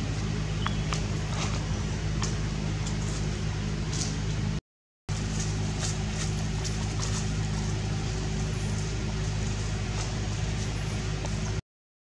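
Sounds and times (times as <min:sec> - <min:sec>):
motor humming: 0:00.0 - 0:11.6.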